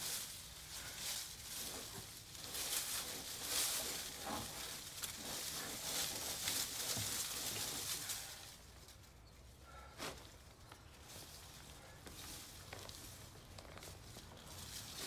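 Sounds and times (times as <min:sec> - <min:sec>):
dry leaves rustling: 0:00.0 - 0:09.2, 0:09.8 - 0:15.0.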